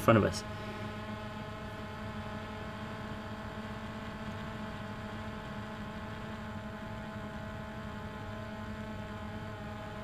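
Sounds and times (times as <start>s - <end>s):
steady hum with overtones: 0.0s - 10.0s.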